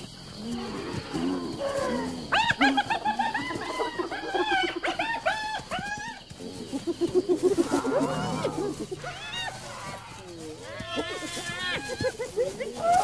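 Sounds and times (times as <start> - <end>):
animals yelping: 0.0 - 13.0.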